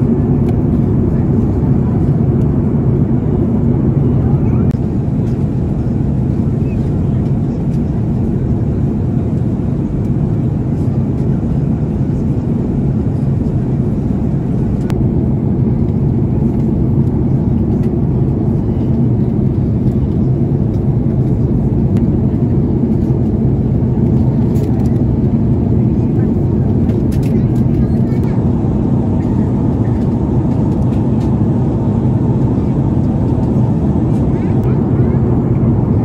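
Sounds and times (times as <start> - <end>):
airliner cabin engine rumble: 0.0 - 36.0.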